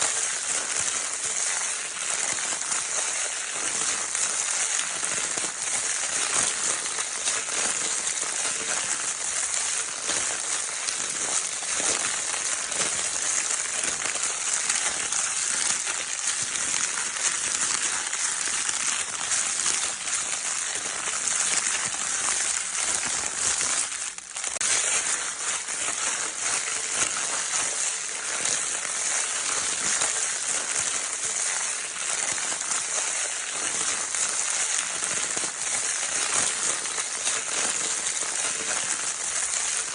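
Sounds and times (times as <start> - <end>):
crinkle toy paper rustling: 0.0 - 39.9.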